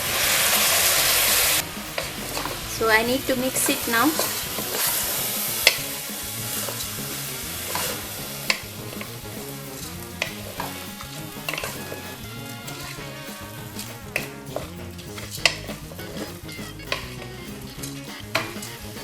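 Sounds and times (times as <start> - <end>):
rice frying sizzle: 0.0 - 19.0.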